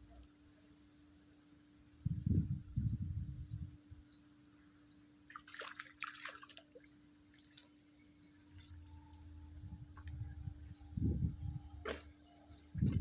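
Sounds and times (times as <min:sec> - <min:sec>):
small bird chirping: 0:01.8 - 0:05.6, 0:06.2 - 0:13.0.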